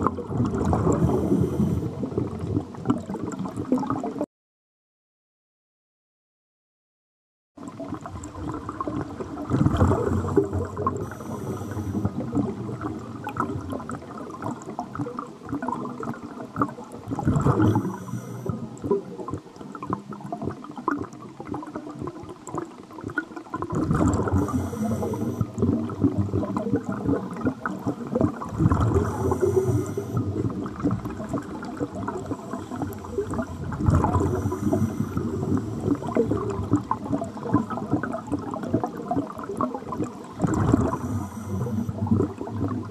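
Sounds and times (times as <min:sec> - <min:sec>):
underwater bubbles gurgling: 0:00.0 - 0:04.3, 0:07.6 - 0:42.9.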